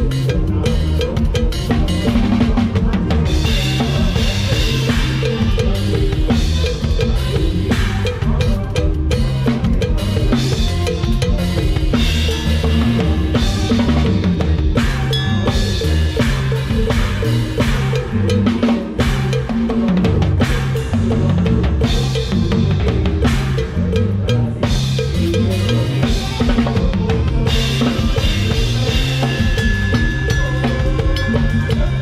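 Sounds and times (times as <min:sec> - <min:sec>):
bass and melody: 0:00.0 - 0:32.0
drum kit beat: 0:00.0 - 0:32.0.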